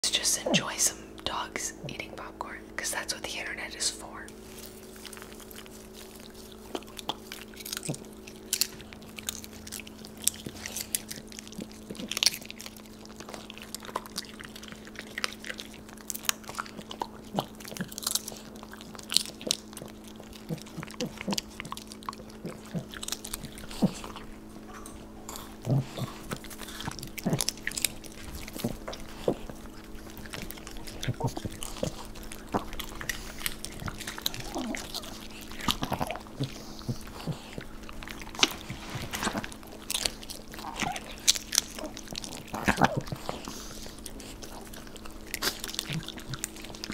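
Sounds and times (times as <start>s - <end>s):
dogs crunching popcorn: 0.0s - 46.9s
faint steady hum: 0.0s - 46.9s.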